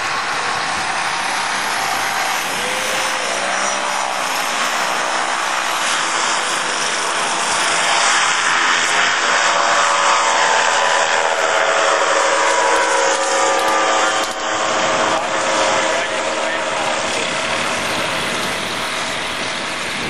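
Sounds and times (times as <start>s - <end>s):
light aircraft engine and propeller: 0.0s - 20.0s.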